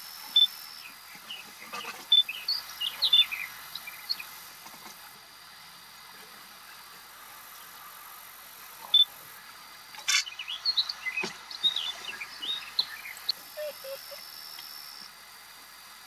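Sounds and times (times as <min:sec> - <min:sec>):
steady outdoor hiss: 0:00.0 - 0:16.0
birds chirping: 0:00.3 - 0:05.8, 0:06.4 - 0:15.0.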